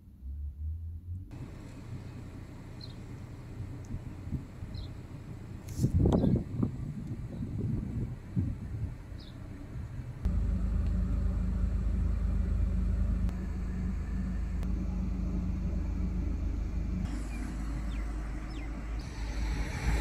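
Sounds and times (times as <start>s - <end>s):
car driving heard from cabin: 0.0s - 20.0s.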